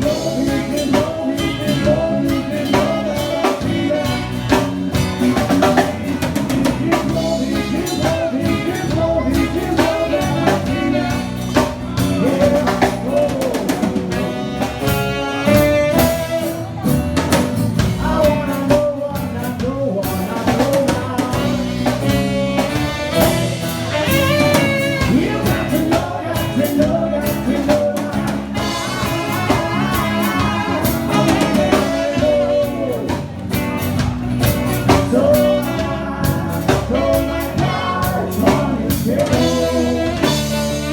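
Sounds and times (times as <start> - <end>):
band playing pop-rock: 0.0 - 40.9
person singing: 0.0 - 40.9.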